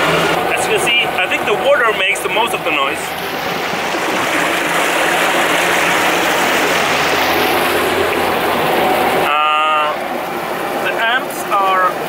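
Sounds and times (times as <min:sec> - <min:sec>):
faint steady hum: 0:00.0 - 0:12.0
water rushing in boat wake: 0:00.0 - 0:12.0.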